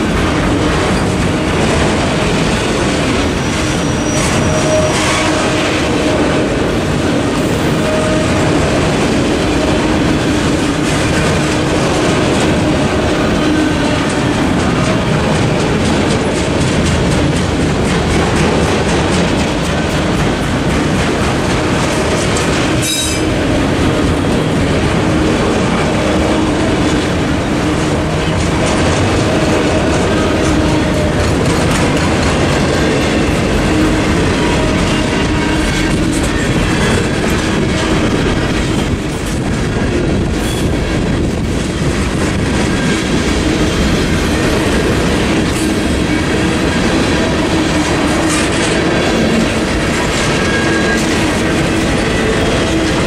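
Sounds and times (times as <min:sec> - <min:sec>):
freight train rumbling past: 0:00.0 - 0:53.0
wheels clattering over rails: 0:00.0 - 0:53.0.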